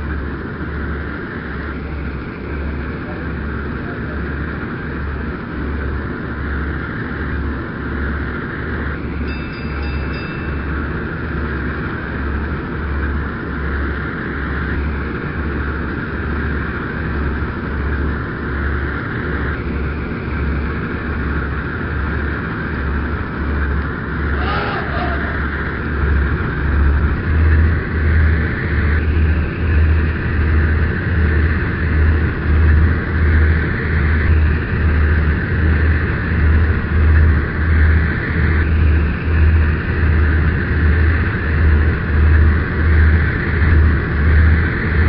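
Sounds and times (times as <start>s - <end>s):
ship engine rumble: 0.0s - 45.0s.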